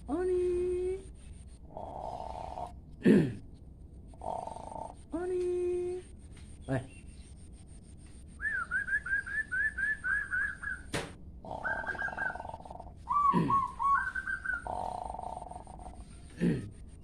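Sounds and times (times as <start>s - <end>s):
songbird singing: 1.2s - 17.0s.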